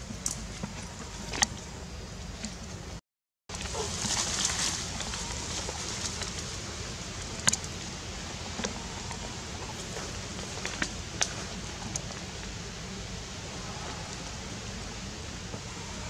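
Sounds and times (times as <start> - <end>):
leaves and branches rustling: 0.0 - 16.0.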